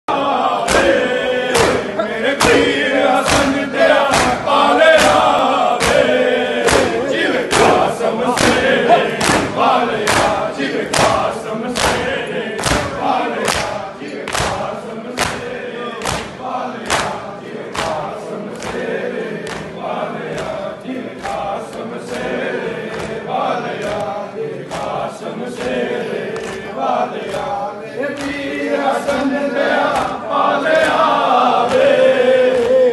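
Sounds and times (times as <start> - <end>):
men chanting in unison: 0.1 - 32.9.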